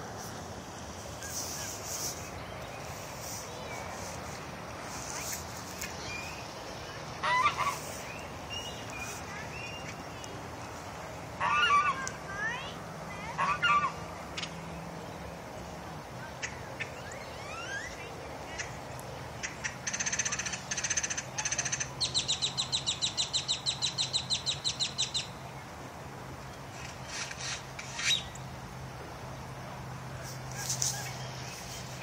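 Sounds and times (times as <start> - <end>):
birds chirping: 0.0 - 25.8, 26.4 - 28.6, 29.2 - 32.0.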